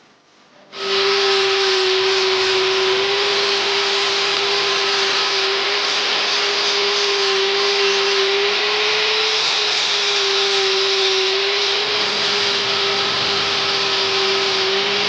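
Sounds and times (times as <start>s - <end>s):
power tool motor whining: 0.7s - 15.0s.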